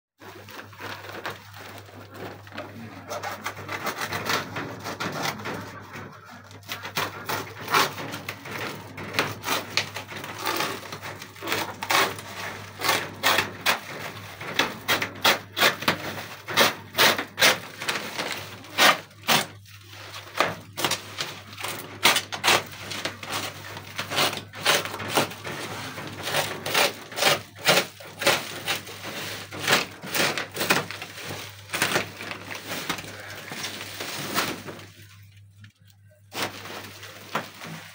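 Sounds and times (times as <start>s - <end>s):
plastic film crinkling: 0.2s - 37.9s.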